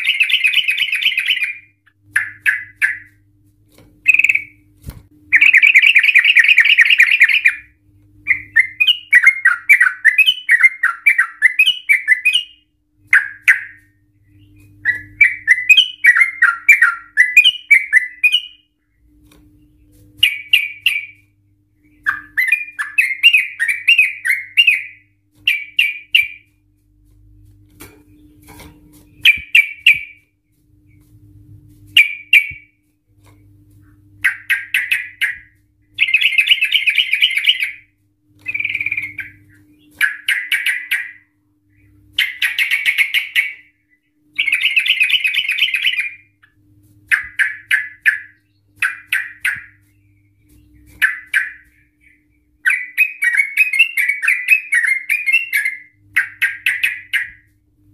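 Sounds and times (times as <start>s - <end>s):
bird singing: 0.0s - 3.2s, 4.0s - 4.7s, 5.3s - 26.5s, 29.1s - 30.2s, 32.0s - 32.8s, 34.0s - 57.5s.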